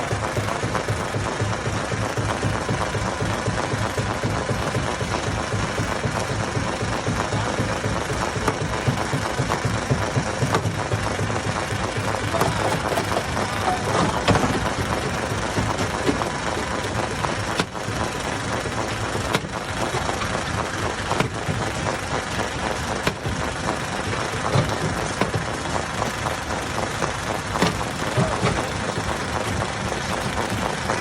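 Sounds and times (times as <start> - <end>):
stone crusher machine noise: 0.0 - 31.0.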